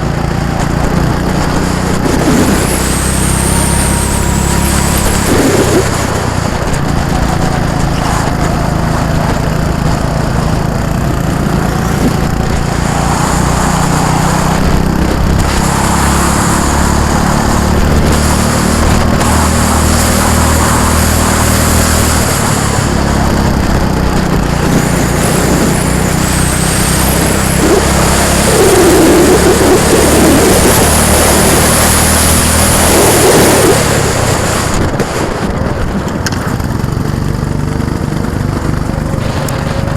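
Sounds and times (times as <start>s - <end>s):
go-kart engines passing: 0.0s - 39.9s.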